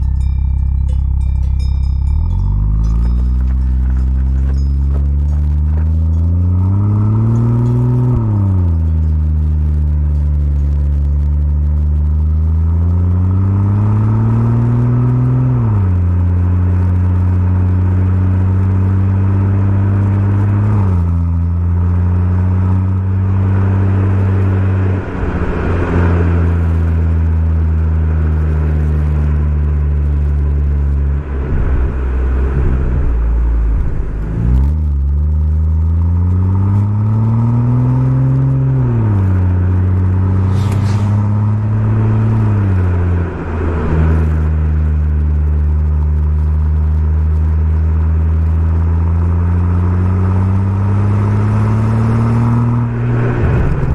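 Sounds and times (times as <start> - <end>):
car engine revving: 0.0 - 53.9
exhaust crackling: 0.0 - 53.9.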